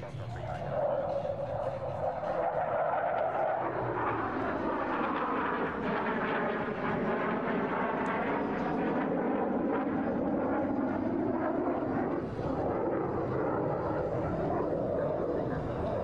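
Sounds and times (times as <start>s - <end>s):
jet engine roar overhead: 0.0s - 16.0s.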